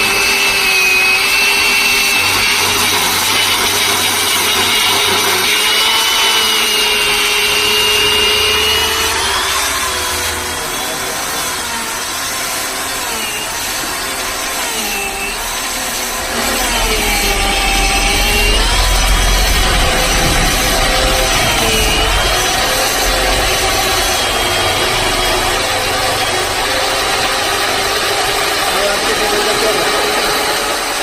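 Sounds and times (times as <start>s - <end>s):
power saw cutting wood: 0.0s - 31.0s.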